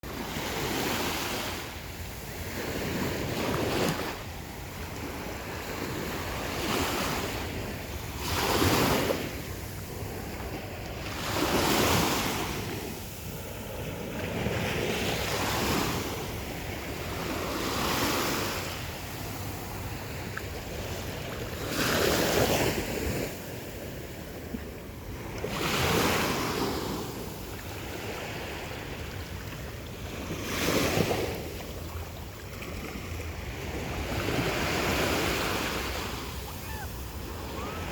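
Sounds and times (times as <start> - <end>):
waves crashing: 0.1 - 37.9.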